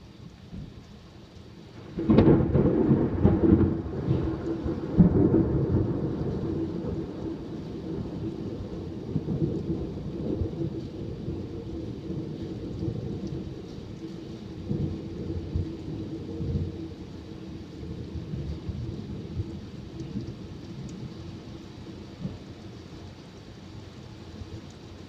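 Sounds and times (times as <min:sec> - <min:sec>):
steady rain: 0:00.0 - 0:25.0
thunder rumbling: 0:01.8 - 0:22.7.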